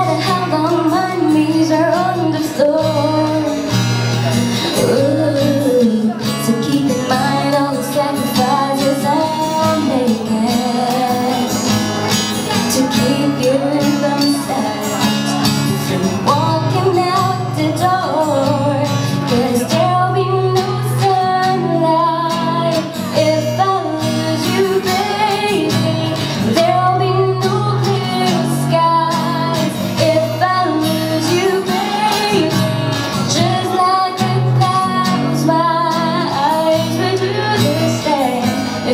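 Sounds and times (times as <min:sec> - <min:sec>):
acoustic guitar playing: 0:00.0 - 0:38.9
woman singing into a microphone: 0:00.0 - 0:38.9.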